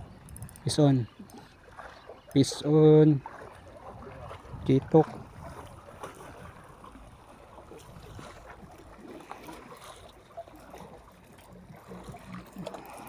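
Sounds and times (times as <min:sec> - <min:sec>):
sea water lapping against concrete: 0:00.0 - 0:13.0.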